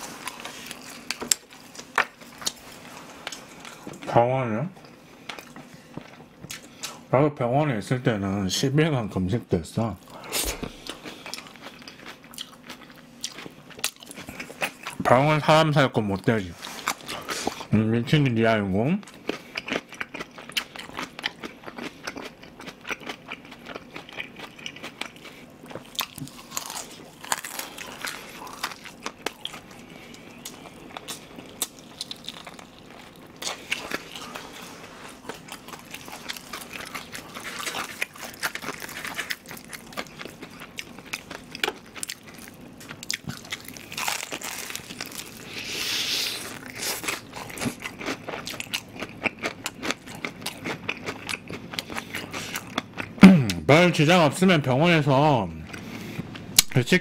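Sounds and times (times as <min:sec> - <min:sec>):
chewing and crunching food: 0:00.0 - 0:07.1, 0:09.8 - 0:53.6, 0:55.5 - 0:56.7.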